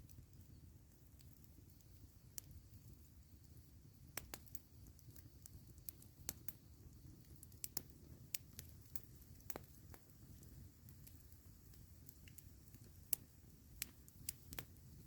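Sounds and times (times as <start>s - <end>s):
campfire crackling and popping: 0.0s - 15.0s
faint low background noise: 0.0s - 15.0s.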